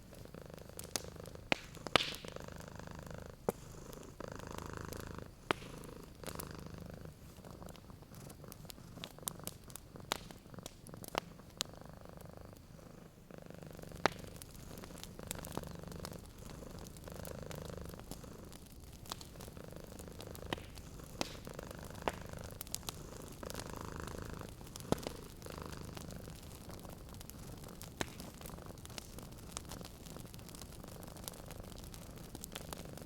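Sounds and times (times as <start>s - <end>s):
cat purring: 0.0s - 33.0s
wood fire crackling and popping: 0.0s - 33.0s.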